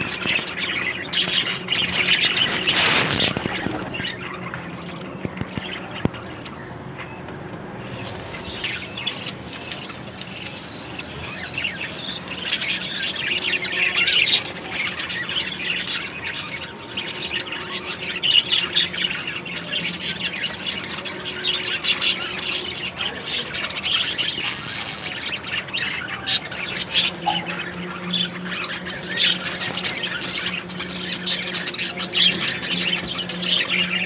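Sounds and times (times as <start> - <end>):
budgerigars chattering and squawking: 0.0 - 6.6, 8.1 - 34.0.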